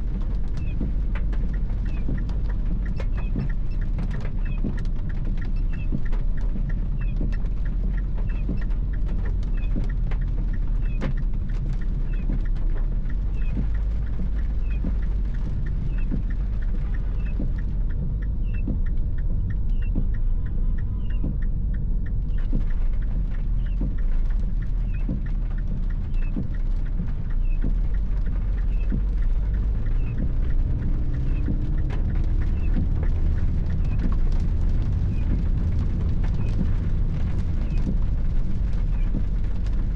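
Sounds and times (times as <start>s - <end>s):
car engine and road rumble: 0.0s - 39.9s
rain ticking on car: 0.0s - 39.9s.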